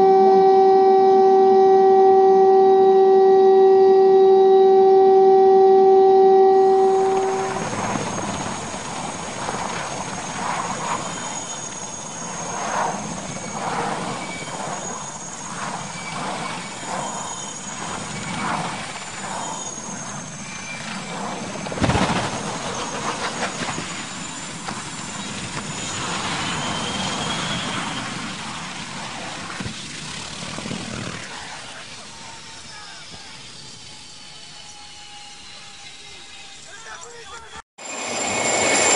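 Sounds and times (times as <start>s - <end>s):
rising whine: 0.0s - 29.4s, 31.1s - 36.7s, 37.8s - 38.9s
helicopter engines and rotor: 6.7s - 36.9s, 37.8s - 38.9s.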